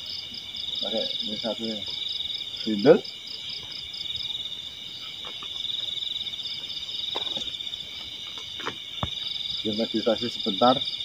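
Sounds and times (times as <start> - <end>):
insects trilling: 0.0 - 11.0
pulsing insect trill: 0.0 - 11.0.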